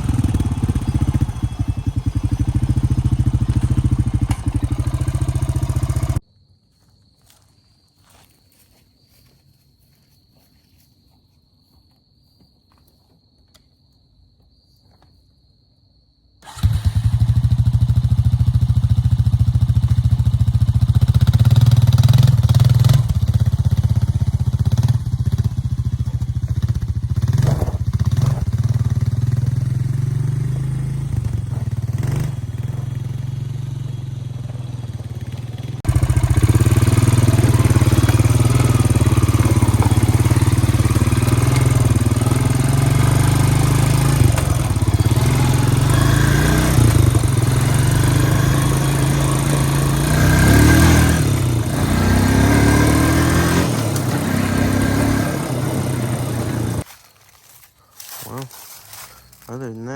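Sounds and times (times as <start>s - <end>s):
atv engine running: 0.0s - 6.2s, 16.4s - 59.5s.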